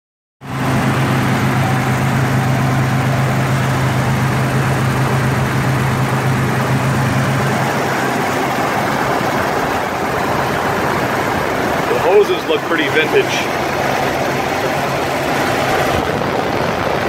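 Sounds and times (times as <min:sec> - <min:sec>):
car engine idling: 0:00.5 - 0:17.0
strong low hum: 0:00.5 - 0:17.0.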